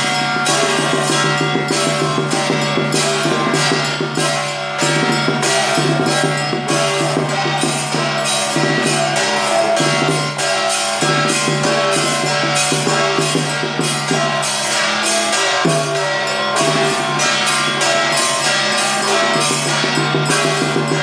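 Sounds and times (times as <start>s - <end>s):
cymbals and drums beating: 0.0s - 21.0s.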